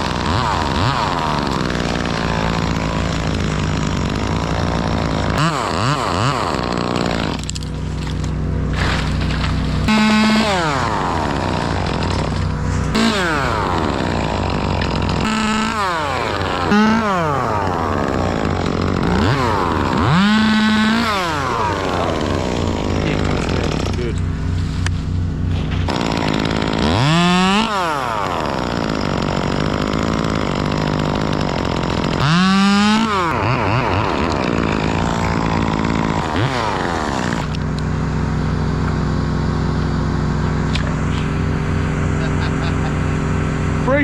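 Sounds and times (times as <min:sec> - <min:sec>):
chainsaw engine revving: 0:00.0 - 0:44.0.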